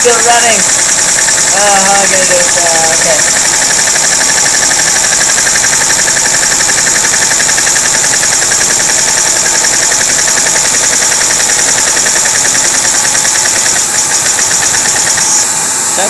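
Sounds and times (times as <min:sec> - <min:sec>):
fast rattling vacuum engine: 0:00.0 - 0:16.0
vacuum cleaner whining: 0:00.0 - 0:16.0.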